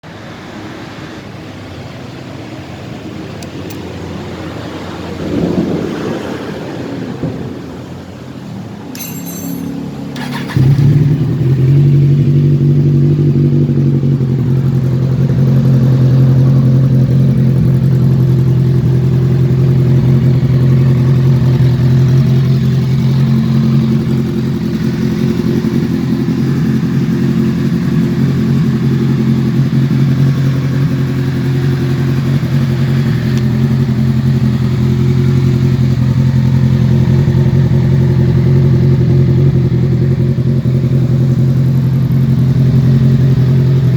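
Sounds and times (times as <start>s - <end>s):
motorcycle engine running steadily: 1.2s - 5.6s, 8.8s - 43.9s.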